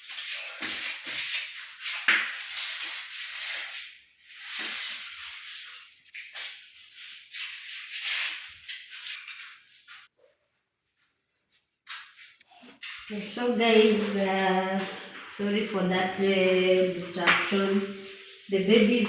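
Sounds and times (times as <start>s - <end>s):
broom sweeping floor: 0.0s - 19.0s.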